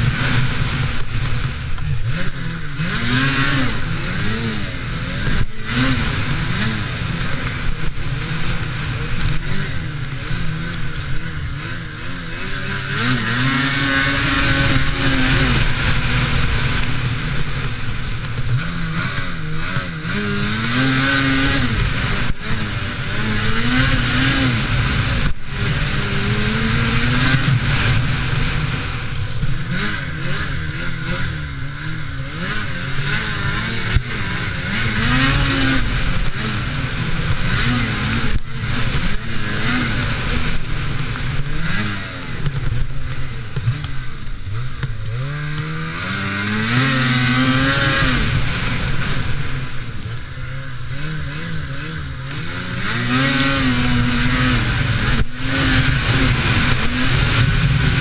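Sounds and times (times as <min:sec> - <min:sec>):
snowmobile engine revving: 0:00.0 - 0:58.0
track and wind noise: 0:00.0 - 0:58.0.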